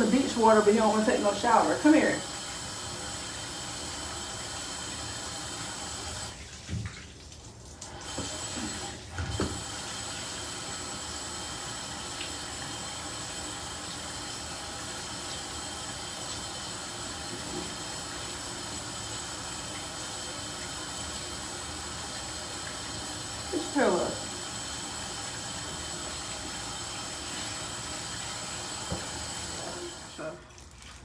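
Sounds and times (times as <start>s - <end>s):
shower water running: 0.0s - 31.0s.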